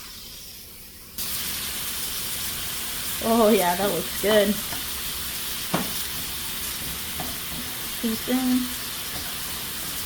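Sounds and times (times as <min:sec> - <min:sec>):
onion and garlic sizzling in a pan: 0:00.0 - 0:10.0.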